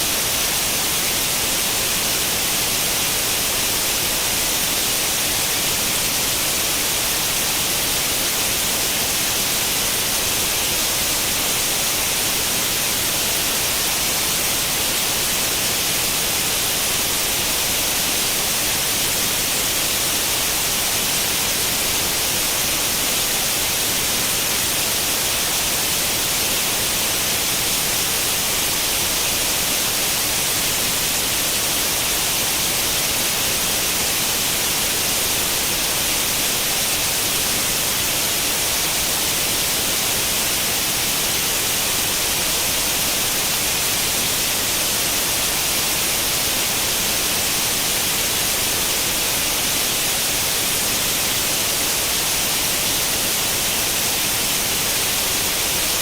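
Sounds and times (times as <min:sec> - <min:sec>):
white noise static hiss: 0:00.0 - 0:56.0.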